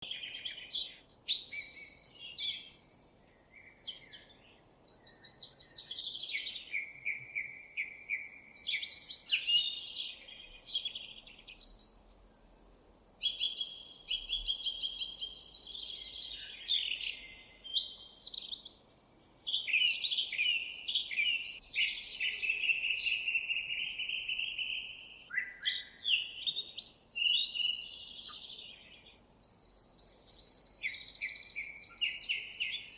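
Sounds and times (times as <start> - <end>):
songbird singing trills: 0.0 - 32.9.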